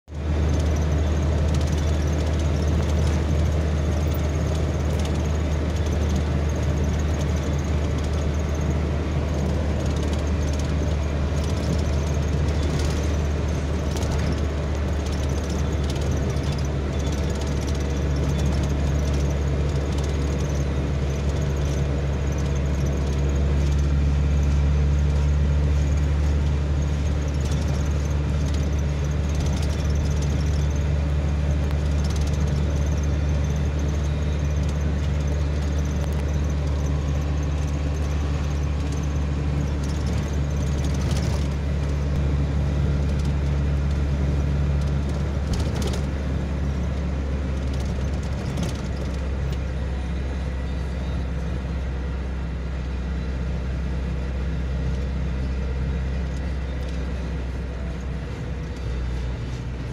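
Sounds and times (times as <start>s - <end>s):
car engine drone inside cabin: 0.0s - 59.9s
tyre noise on road: 0.0s - 59.9s.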